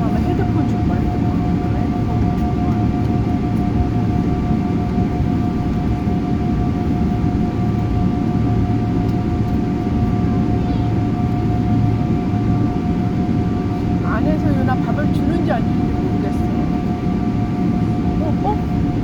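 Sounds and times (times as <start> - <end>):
low rumble of engines: 0.0 - 19.0.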